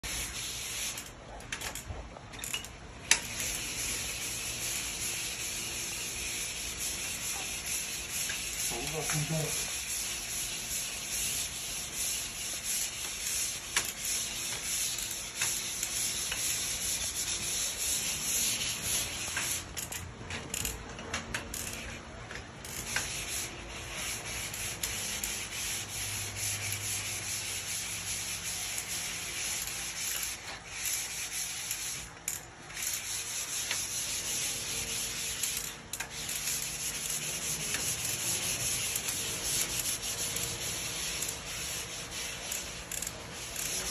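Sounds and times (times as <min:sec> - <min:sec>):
sanding drywall by hand: 0:00.0 - 0:01.0, 0:03.2 - 0:19.8, 0:21.7 - 0:22.0, 0:22.7 - 0:43.9.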